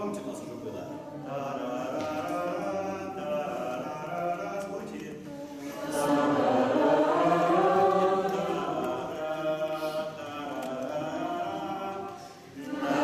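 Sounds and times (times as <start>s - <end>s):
group singing a cappella chant: 0.0s - 13.0s.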